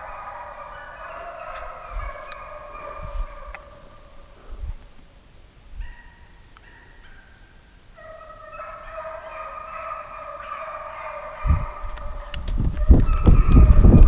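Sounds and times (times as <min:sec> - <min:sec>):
hounds baying: 0:00.0 - 0:04.6, 0:05.8 - 0:07.3, 0:08.0 - 0:14.0.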